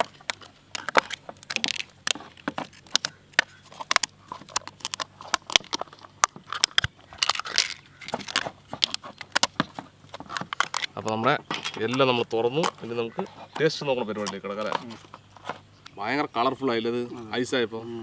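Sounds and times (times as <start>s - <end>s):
plastic lids clicking and crinkling: 0.0s - 15.9s.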